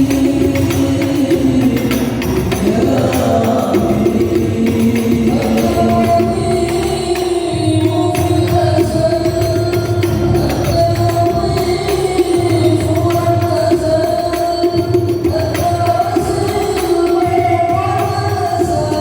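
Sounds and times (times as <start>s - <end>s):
devotional singing over loudspeakers: 0.0s - 19.0s
hand drum percussion: 0.0s - 19.0s.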